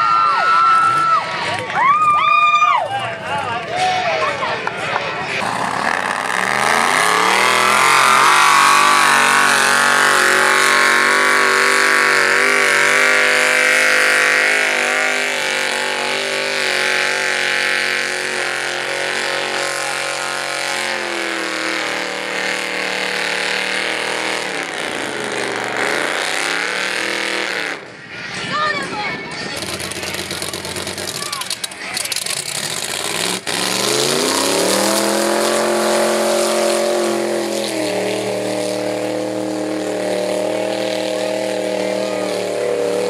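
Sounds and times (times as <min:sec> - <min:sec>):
truck engine revving hard: 0:05.3 - 0:28.1, 0:29.4 - 0:43.0.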